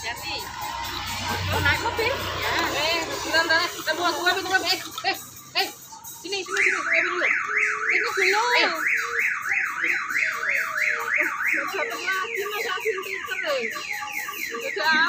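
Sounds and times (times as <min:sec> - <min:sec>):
warbling electronic siren tone: 0:00.0 - 0:04.4, 0:06.4 - 0:15.0.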